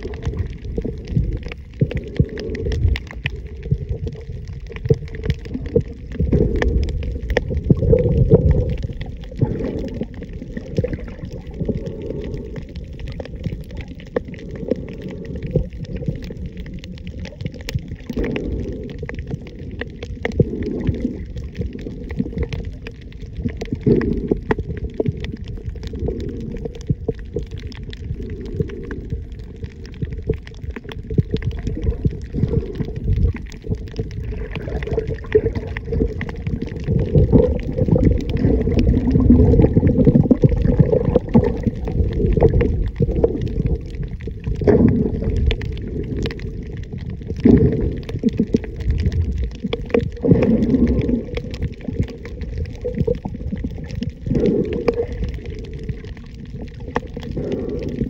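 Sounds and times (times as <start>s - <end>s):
underwater water movement: 0.0s - 58.0s.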